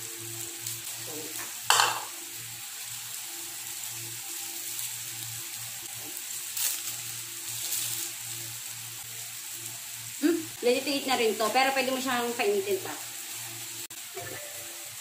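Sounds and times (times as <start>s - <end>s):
meat sizzling on a grill pan: 0.0s - 15.0s.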